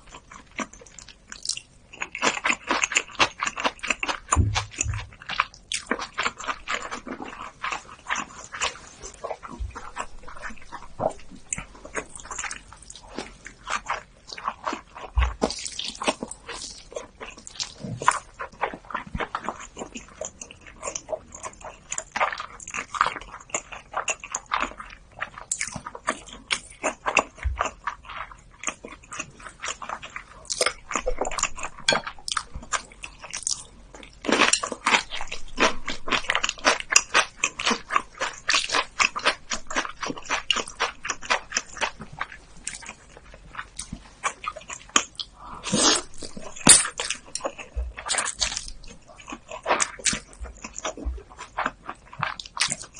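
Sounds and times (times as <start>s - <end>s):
wet chewing: 0.0s - 52.9s.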